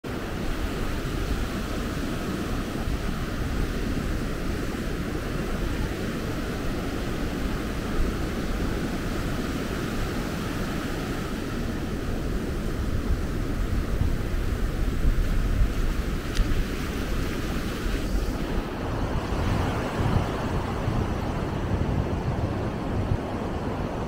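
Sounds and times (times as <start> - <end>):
wind rumble on microphone: 0.0 - 24.0
ocean surf breaking: 0.1 - 24.0.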